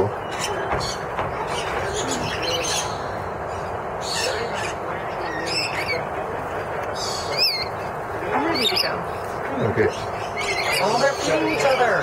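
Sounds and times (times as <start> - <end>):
background hubbub: 0.0 - 12.0
lorikeets chirping and squawking: 0.0 - 12.0.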